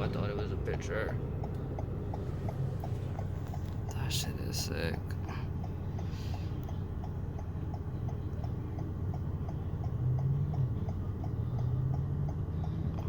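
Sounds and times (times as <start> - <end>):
low hum: 0.0 - 13.0
rapid mechanical ticking: 0.0 - 13.0
steady low rumble: 0.0 - 13.0.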